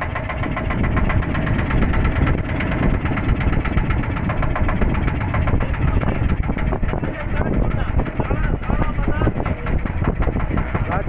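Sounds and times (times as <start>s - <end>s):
motorboat engine chugging: 0.0s - 11.0s.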